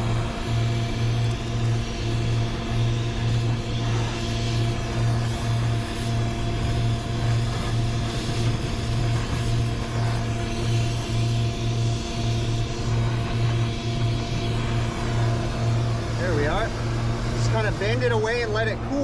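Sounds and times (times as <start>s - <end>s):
pulsing low mechanical hum: 0.0s - 19.0s.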